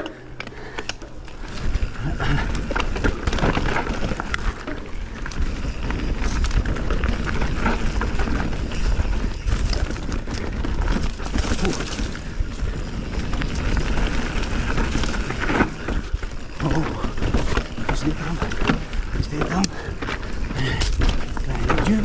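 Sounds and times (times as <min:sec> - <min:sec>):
bike rattling and knocking: 0:00.0 - 0:22.0
bike tyres on dirt and leaves: 0:00.0 - 0:22.0.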